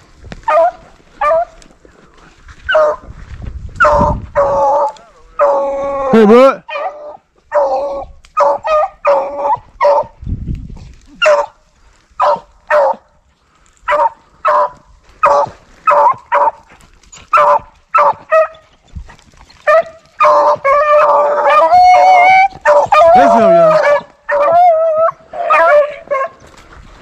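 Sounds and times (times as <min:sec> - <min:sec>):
dogs barking and baying: 0:00.4 - 0:01.7, 0:02.5 - 0:03.1, 0:03.8 - 0:05.8, 0:06.6 - 0:10.2, 0:11.2 - 0:11.6, 0:12.2 - 0:13.1, 0:13.8 - 0:27.0.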